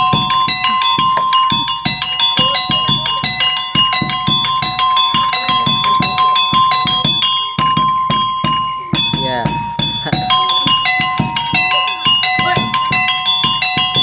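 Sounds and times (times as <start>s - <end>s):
drum beating: 0.0s - 14.0s
metal-key notes struck with mallets: 0.0s - 14.0s
steady high tone: 0.0s - 14.0s.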